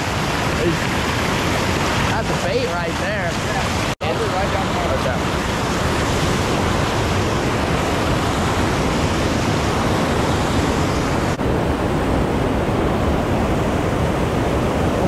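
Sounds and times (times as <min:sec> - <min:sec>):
water rushing over dam spillway: 0:00.0 - 0:15.0.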